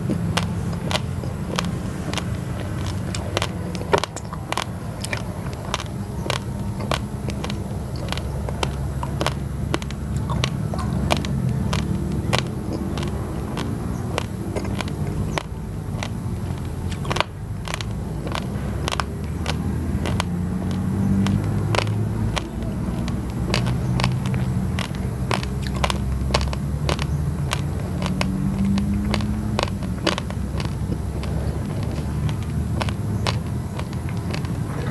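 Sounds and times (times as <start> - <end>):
low motor rumble: 0.0 - 34.9
rice grains crunched between teeth: 0.0 - 34.9.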